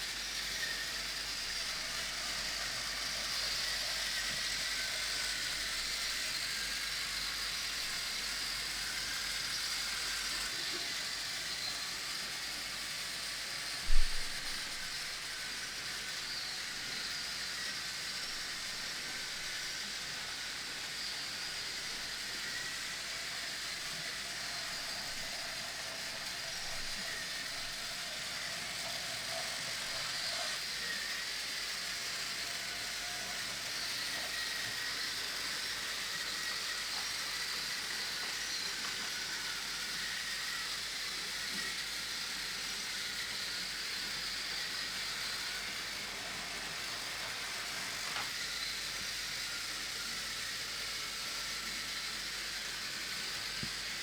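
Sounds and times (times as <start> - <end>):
toy train motor whirring: 0.0 - 54.0.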